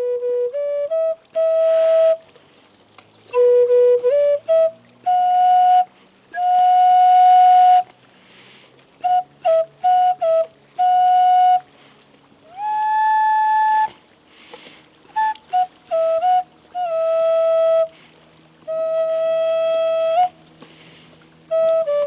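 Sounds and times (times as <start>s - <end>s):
flute playing slow melody: 0.0s - 22.0s.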